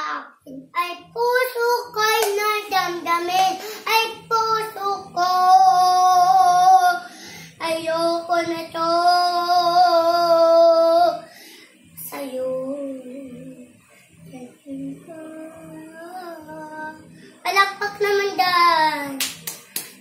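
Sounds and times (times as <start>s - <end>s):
child singing: 0.0s - 11.3s, 12.0s - 13.7s, 14.3s - 19.2s.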